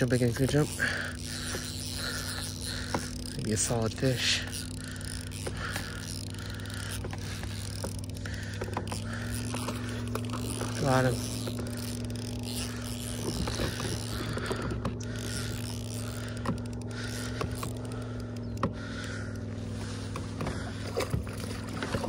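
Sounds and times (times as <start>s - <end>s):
fishing reel clicks: 0.0s - 22.0s
low two-pitch hum: 0.0s - 22.0s.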